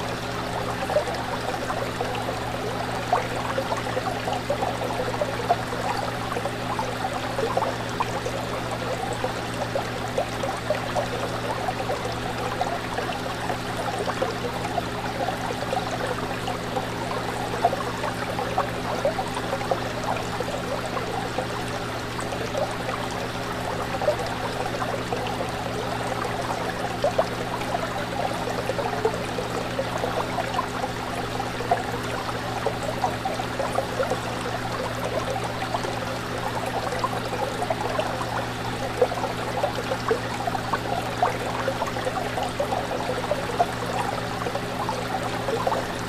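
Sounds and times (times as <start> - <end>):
fish tank water bubbling: 0.0 - 46.0.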